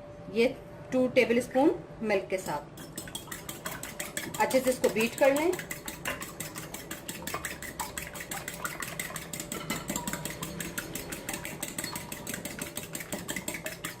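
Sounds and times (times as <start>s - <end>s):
whisk clicking against bowl: 2.8s - 14.0s.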